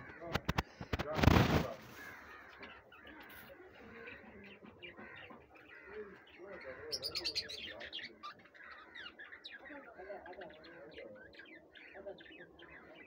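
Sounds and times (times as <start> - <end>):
birds chirping and chattering: 0.0 - 13.0.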